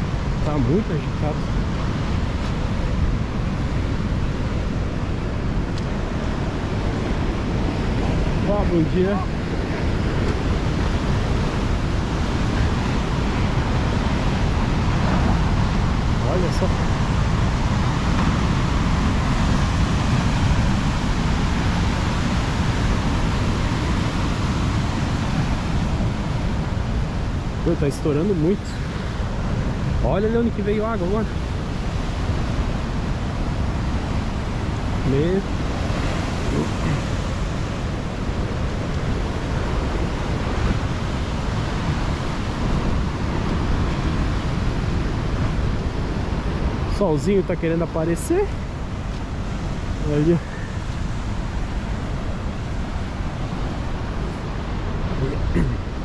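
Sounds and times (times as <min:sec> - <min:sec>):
surf breaking on shore: 0:00.0 - 0:56.0
wind buffeting microphone: 0:00.0 - 0:56.0.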